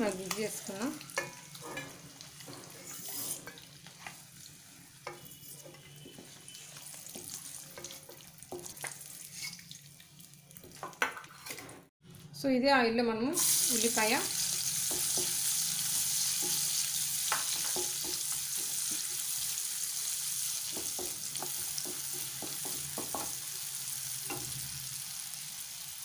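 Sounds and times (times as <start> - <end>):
onions sizzling in oil: 0.0 - 9.8, 13.4 - 26.0.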